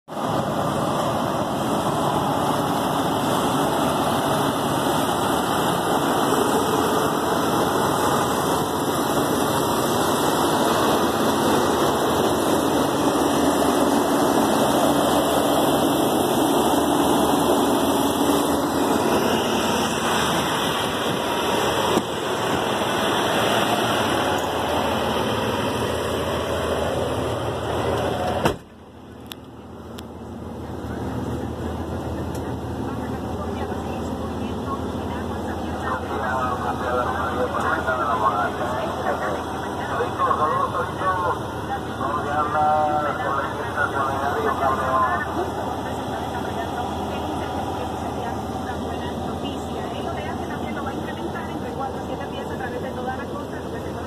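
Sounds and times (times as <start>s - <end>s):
diesel truck engine idling: 0.1s - 54.0s.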